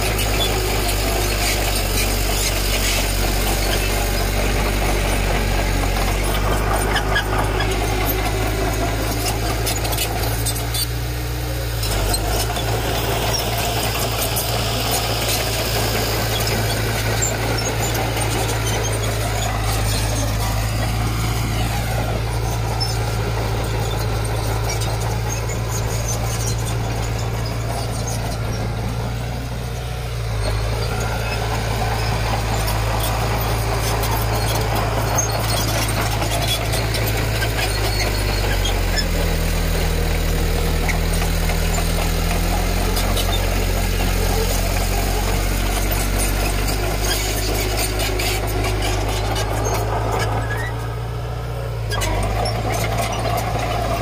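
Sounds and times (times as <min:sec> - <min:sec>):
bulldozer diesel engine running: 0:00.0 - 0:54.0
high squeals: 0:00.0 - 0:54.0.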